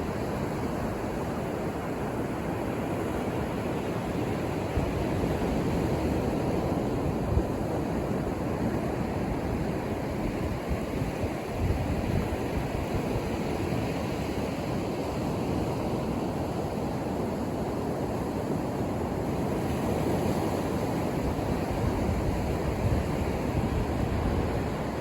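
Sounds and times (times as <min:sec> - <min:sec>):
ocean surf washing onto beach: 0:00.0 - 0:25.0.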